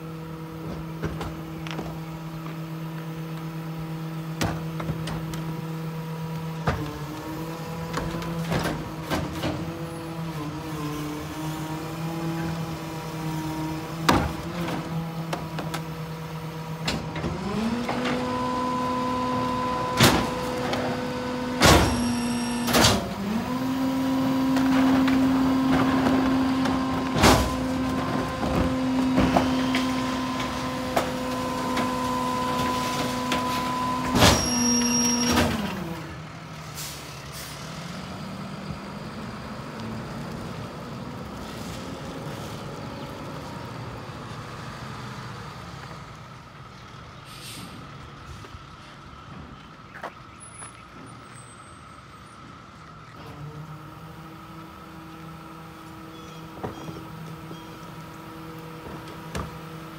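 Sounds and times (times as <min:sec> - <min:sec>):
garbage truck engine: 0:00.0 - 0:59.9.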